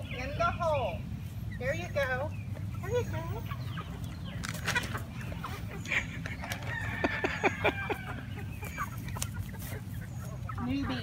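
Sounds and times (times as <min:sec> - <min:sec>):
chickens clucking: 0:00.0 - 0:11.0
drawn-out chicken call: 0:01.5 - 0:11.0.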